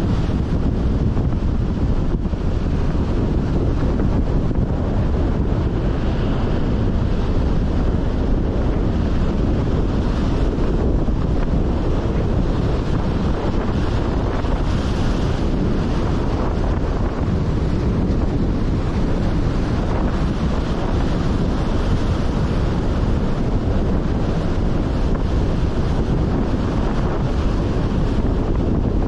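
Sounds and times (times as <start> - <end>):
sea surf breaking: 0.0 - 29.0
wind buffeting microphone: 0.0 - 29.0.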